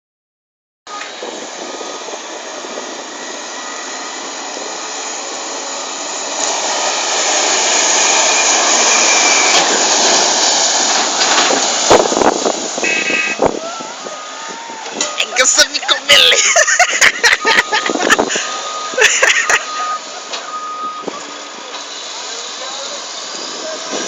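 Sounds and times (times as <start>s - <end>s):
haul truck engine running: 0.9s - 24.0s.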